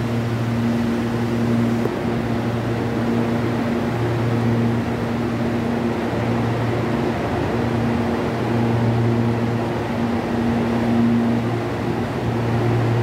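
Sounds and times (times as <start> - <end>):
electric train equipment humming: 0.0 - 13.0.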